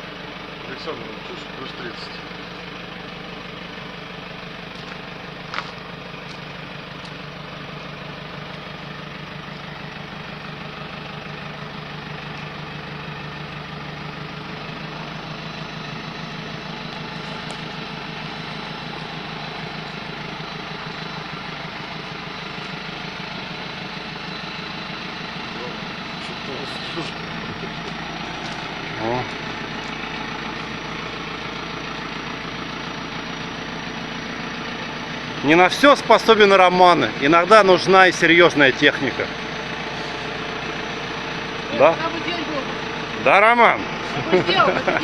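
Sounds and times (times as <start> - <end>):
vehicle engine idling: 0.0 - 45.0.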